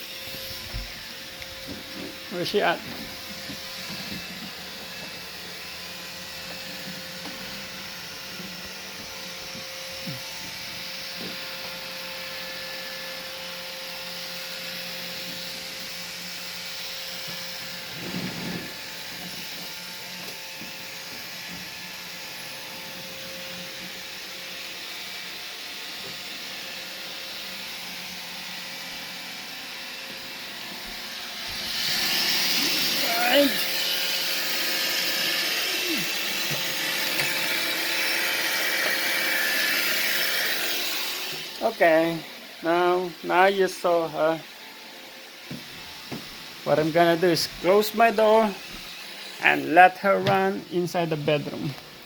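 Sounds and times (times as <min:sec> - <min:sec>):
robot vacuum humming: 0:00.0 - 0:52.0.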